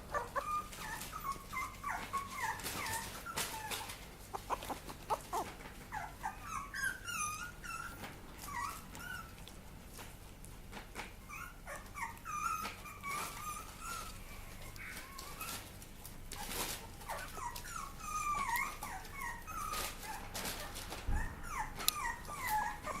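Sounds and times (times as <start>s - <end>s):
puppies whimpering: 0.0s - 9.5s, 11.1s - 23.0s
rustling: 0.0s - 23.0s.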